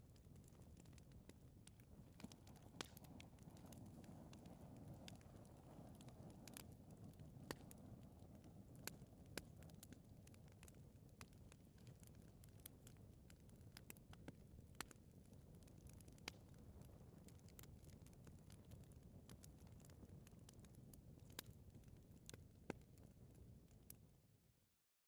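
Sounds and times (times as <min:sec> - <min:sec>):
fire crackling and popping: 0:00.0 - 0:24.2
fire flames rumbling: 0:00.1 - 0:23.9.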